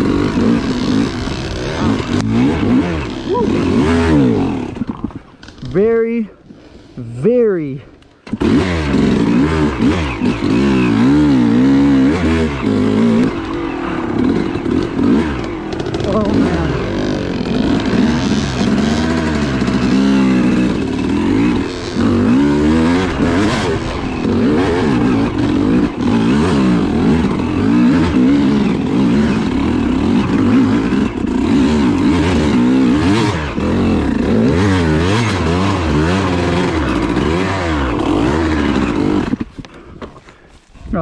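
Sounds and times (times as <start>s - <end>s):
dirt bike engine revving: 0.0s - 6.3s, 8.2s - 39.6s.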